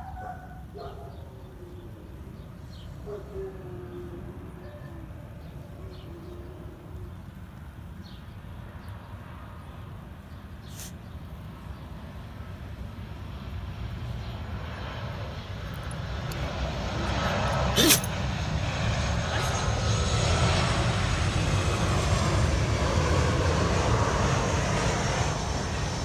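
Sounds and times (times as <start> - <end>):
aircraft rumble overhead: 0.0 - 26.0.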